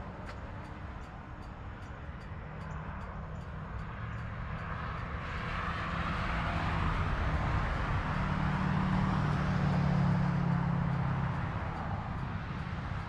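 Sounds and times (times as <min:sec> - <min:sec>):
road noise: 0:00.0 - 0:13.0
vehicle engine hum: 0:00.0 - 0:13.0.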